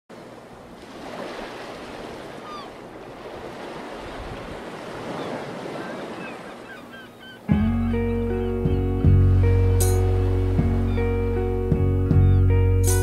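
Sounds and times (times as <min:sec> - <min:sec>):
sea surf washing: 0:00.1 - 0:11.9
wind: 0:00.1 - 0:13.0.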